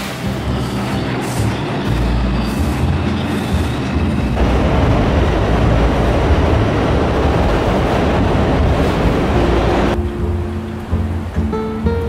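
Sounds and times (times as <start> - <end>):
subway train rushing: 0.0 - 12.0.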